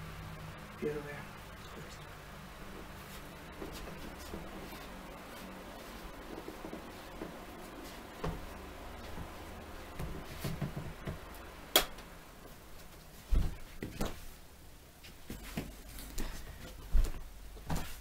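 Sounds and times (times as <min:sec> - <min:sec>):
floor fan humming: 0:00.0 - 0:18.0.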